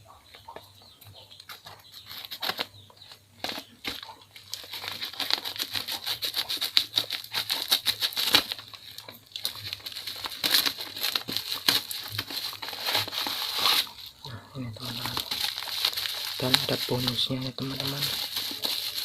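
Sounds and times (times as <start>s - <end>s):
plastic wrapping crinkling and tearing: 2.0s - 2.7s, 3.4s - 19.0s.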